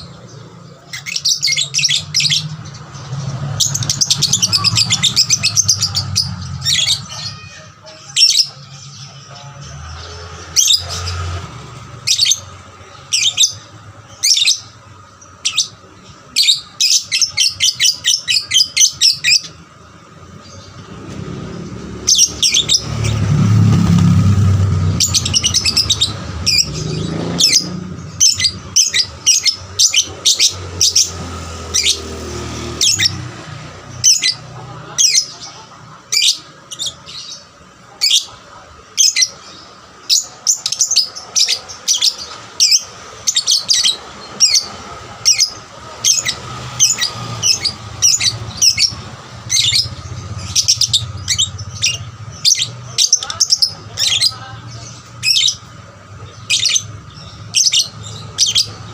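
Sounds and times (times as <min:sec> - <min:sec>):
lovebird chirping: 0:00.0 - 0:19.6, 0:20.4 - 0:58.9.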